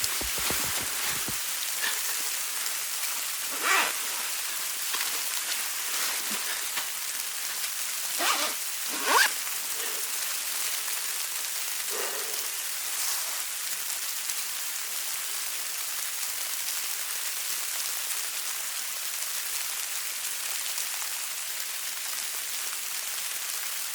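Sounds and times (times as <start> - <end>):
snow falling hiss and patter: 0.0 - 23.9.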